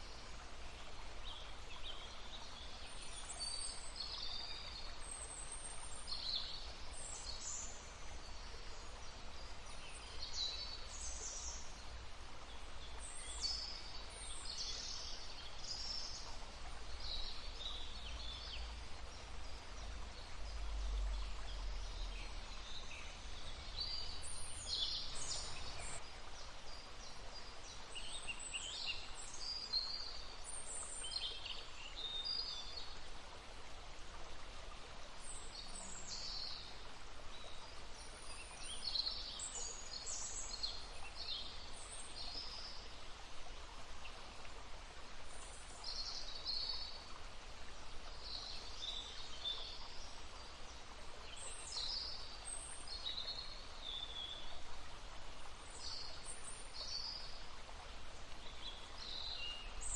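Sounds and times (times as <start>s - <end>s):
babbling stream: 0.0s - 59.9s
songbirds chirping: 0.0s - 59.9s.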